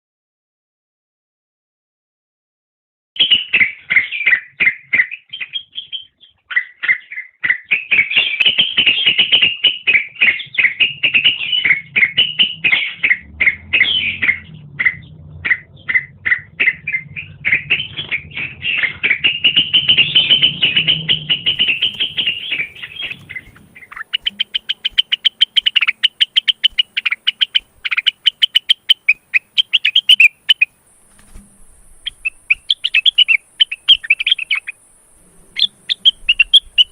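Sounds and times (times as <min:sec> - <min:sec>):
bird chattering song: 0:03.2 - 0:36.9.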